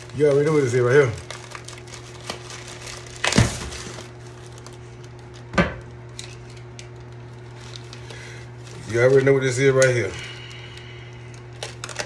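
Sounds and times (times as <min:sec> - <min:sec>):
plastic bag tearing: 0:00.0 - 0:12.0
plastic crinkling: 0:00.0 - 0:12.0
steady low hum: 0:00.0 - 0:12.0.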